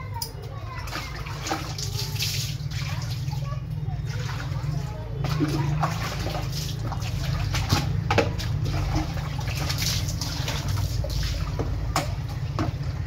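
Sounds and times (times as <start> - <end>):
water splashing and sloshing: 0.1 - 13.0.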